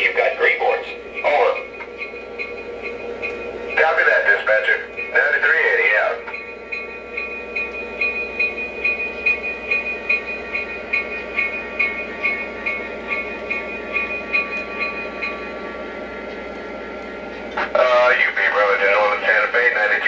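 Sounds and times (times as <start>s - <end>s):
model train whine: 0.0s - 20.0s.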